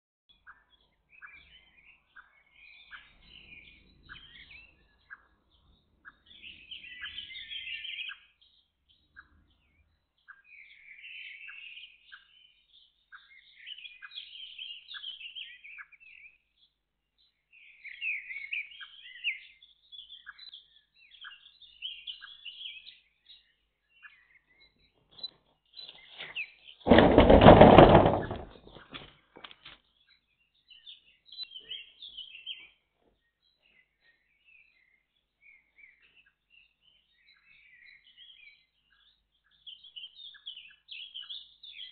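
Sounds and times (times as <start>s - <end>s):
birds singing: 0.3s - 41.9s.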